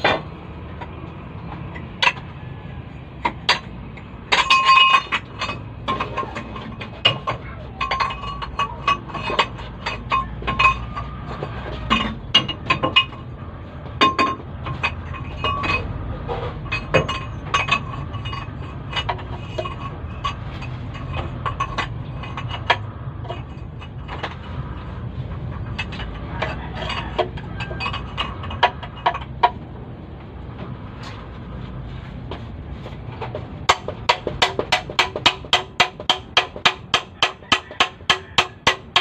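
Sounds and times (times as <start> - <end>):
hand tools clinking on metal: 3.2 - 29.6, 33.1 - 39.0.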